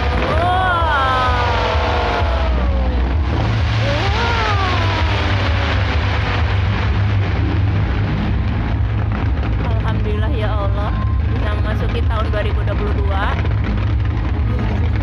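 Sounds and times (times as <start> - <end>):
fireworks crackling: 0.0 - 15.0
low rumble of fireworks: 0.0 - 15.0.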